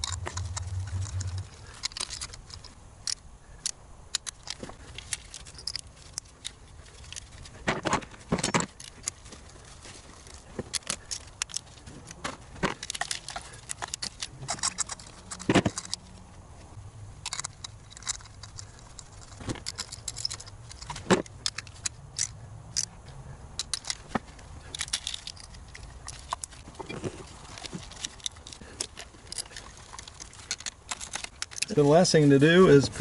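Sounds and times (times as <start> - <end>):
hand tools and plastic parts clattering: 0.0 - 33.0.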